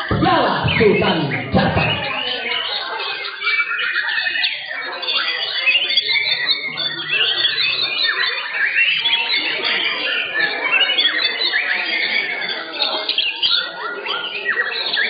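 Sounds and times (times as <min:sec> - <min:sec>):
many birds singing: 0:00.0 - 0:15.0.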